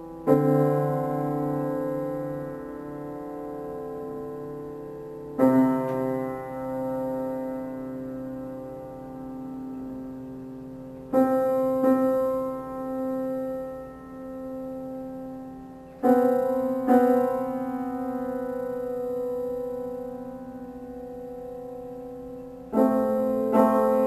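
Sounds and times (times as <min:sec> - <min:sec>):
slow solo piano chords: 0:00.0 - 0:24.0.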